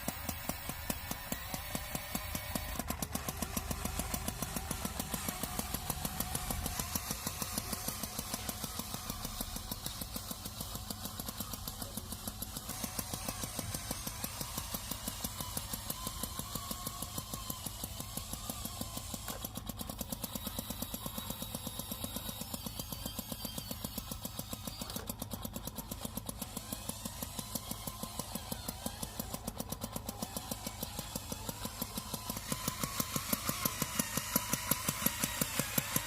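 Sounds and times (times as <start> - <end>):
tractor engine idling: 0.0 - 36.0.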